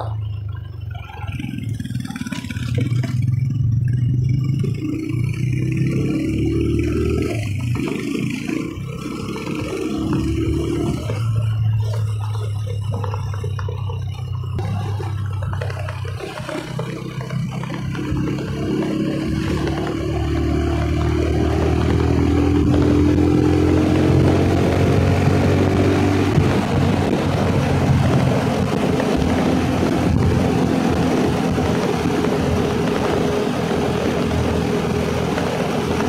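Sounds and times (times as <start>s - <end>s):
motorcycle engine accelerating: 0.0s - 36.0s
wind and road noise: 0.0s - 36.0s.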